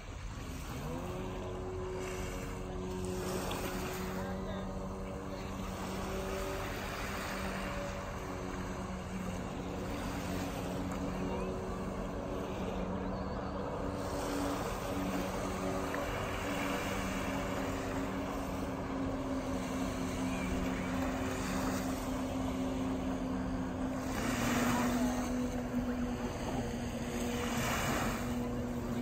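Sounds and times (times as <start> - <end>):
jet ski engines droning: 0.0 - 29.0.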